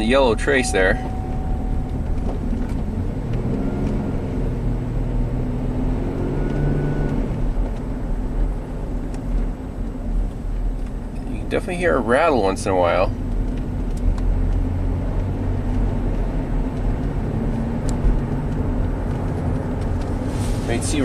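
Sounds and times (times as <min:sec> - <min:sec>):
car engine pulling under load: 0:00.0 - 0:11.0, 0:13.4 - 0:21.0
road noise: 0:00.0 - 0:21.0.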